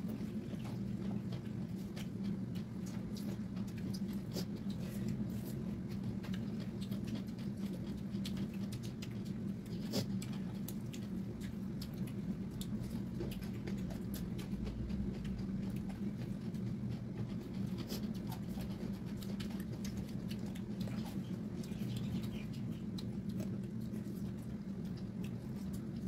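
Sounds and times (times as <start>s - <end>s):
wet chewing: 0.0s - 26.0s.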